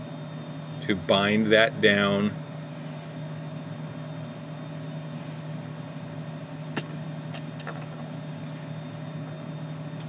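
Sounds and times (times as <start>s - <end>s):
low machine-like hum: 0.0s - 10.0s.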